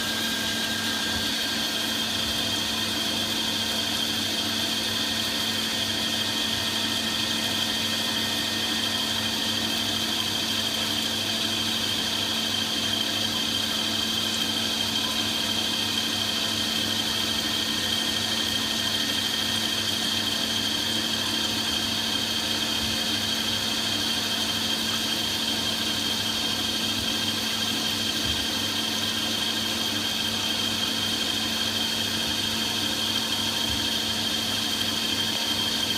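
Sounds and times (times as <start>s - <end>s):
high even machine whine: 0.0s - 35.9s
milling machine cutting metal: 0.0s - 35.9s.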